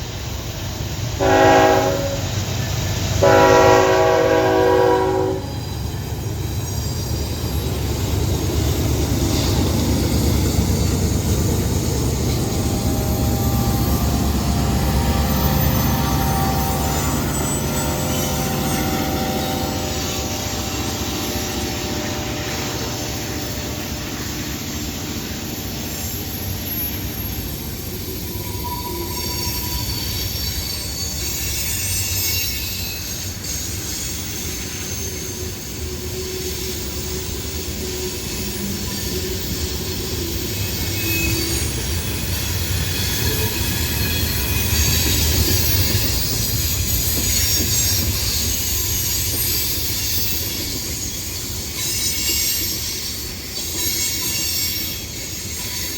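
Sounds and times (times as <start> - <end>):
train cars rumbling on rails: 0.0 - 55.9
high-pitched wheel squeals: 6.7 - 35.8, 36.4 - 55.9.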